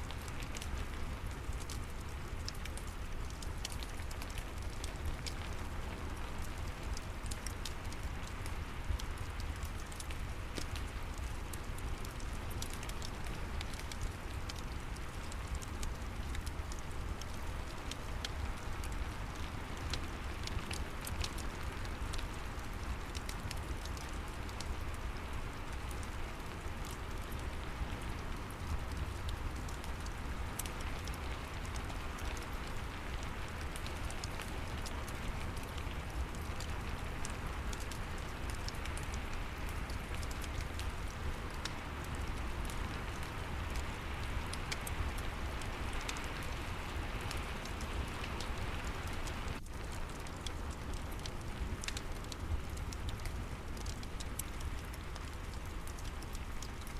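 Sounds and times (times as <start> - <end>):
fire crackling: 0.0 - 56.9
steady rain: 0.0 - 56.9.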